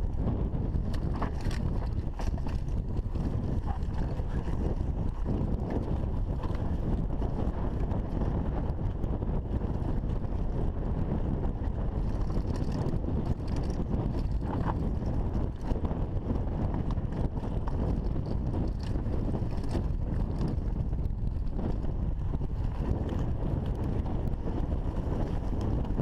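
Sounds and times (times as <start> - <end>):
wind rumble on microphone: 0.0 - 26.0
bike tyres on dirt: 0.1 - 26.0
bike clicks and rattles: 0.2 - 9.0, 11.0 - 26.0.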